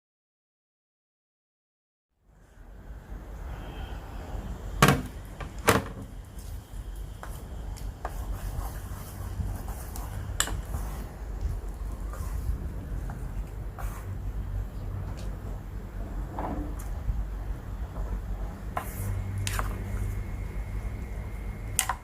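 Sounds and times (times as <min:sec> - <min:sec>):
low steady rumble: 0:02.3 - 0:21.9.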